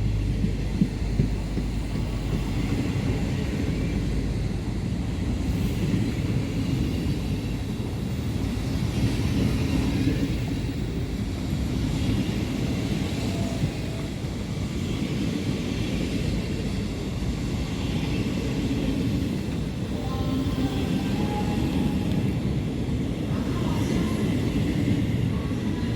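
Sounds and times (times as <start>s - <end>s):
train rumbling past: 0.0s - 25.9s.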